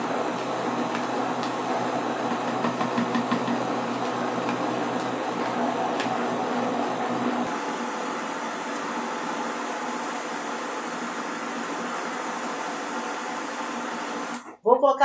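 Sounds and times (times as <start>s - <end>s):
blender motor whirring: 0.0s - 14.5s.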